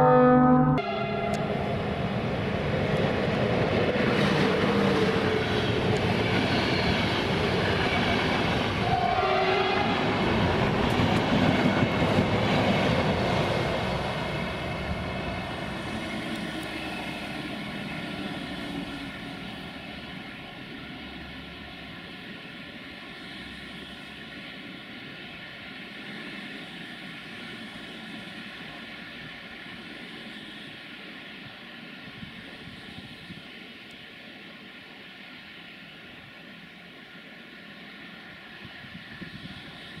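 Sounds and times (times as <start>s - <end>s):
train passing on rails: 0.0s - 40.0s.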